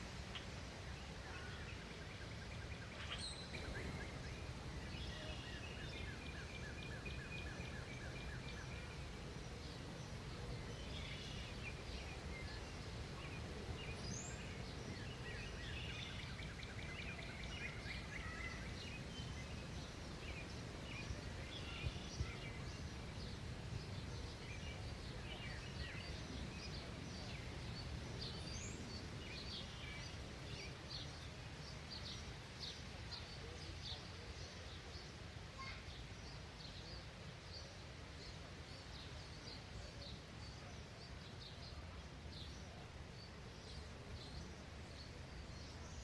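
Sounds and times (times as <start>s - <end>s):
low background noise: 0.0s - 46.0s
songbirds chirping and trilling: 0.0s - 46.0s.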